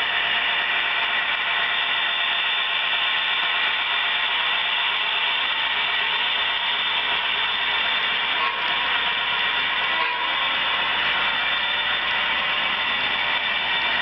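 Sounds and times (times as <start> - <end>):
wheels running on track: 0.0 - 14.0.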